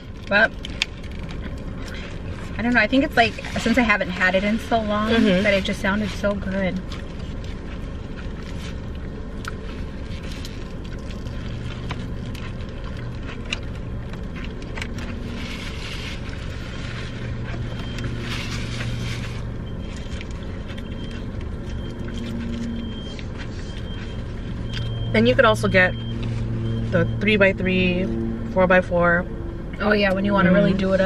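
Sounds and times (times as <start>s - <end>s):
paper wrappers rustling: 0.0s - 25.0s
car engine humming: 0.0s - 31.0s.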